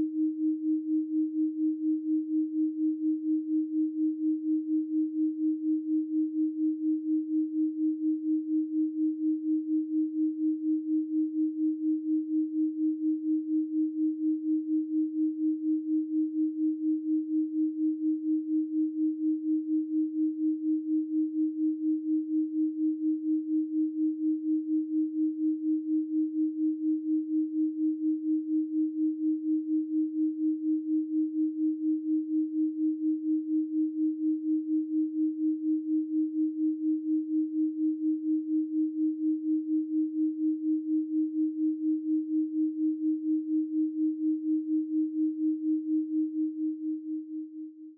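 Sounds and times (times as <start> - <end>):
pulsing sine tone: 0.0 - 47.9.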